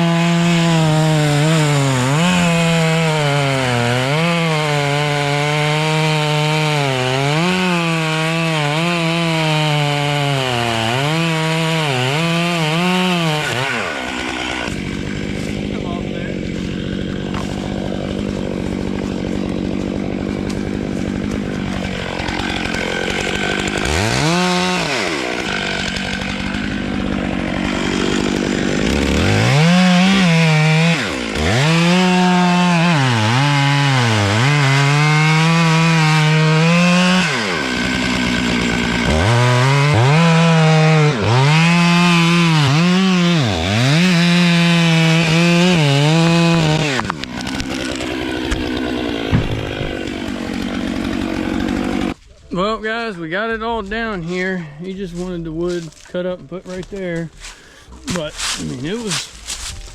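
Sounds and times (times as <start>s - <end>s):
chainsaw cutting wood: 0.0s - 52.2s, 56.6s - 59.9s.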